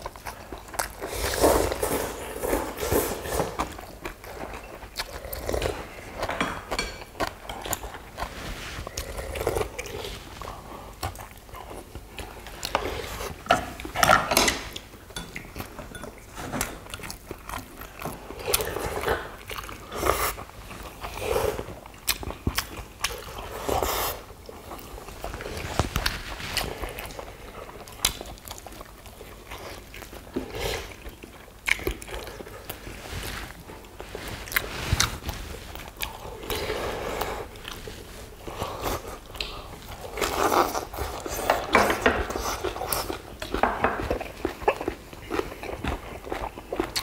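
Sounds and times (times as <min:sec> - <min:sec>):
people chewing and slurping: 0:00.0 - 0:47.0.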